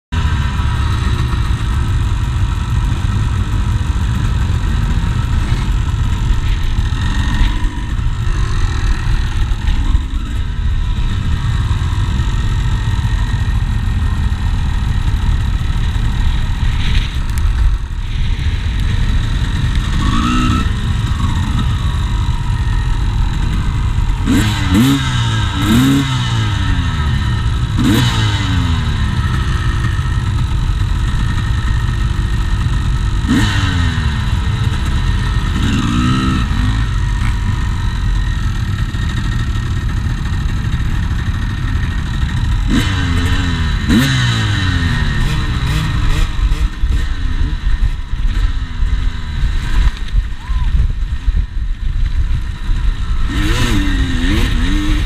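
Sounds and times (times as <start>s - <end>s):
motorcycle engines idling: 0.1s - 55.0s
motorcycle throttle revving: 0.2s - 55.0s.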